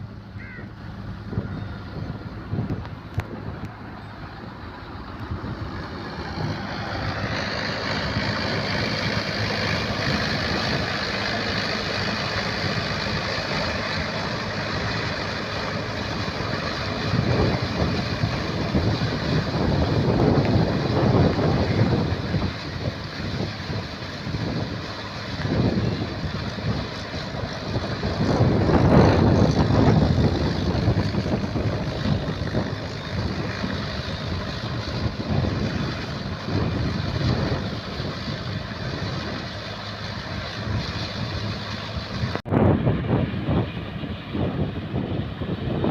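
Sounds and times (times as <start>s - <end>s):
tractor engine running: 0.0s - 45.4s
rushing surges: 0.0s - 45.9s.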